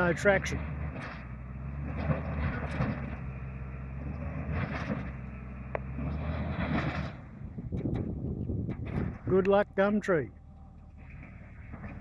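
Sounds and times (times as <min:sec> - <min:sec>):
bulldozer diesel engine: 0:00.0 - 0:12.0.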